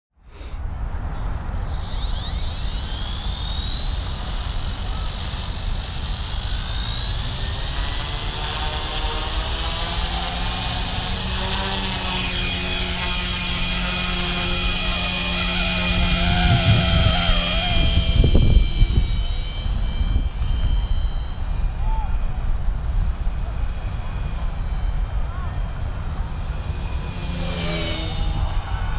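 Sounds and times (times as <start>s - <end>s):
electric motor whine: 1.4s - 28.9s.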